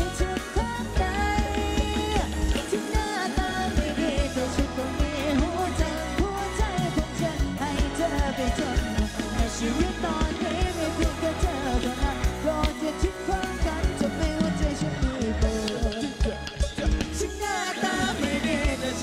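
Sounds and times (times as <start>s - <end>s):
live band playing: 0.0s - 19.0s
person singing: 0.0s - 19.0s
steady drum beat: 0.0s - 19.0s.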